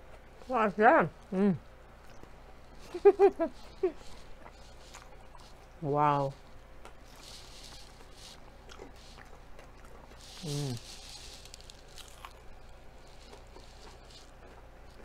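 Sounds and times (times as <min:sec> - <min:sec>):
crunchy chewing: 0:01.9 - 0:15.0.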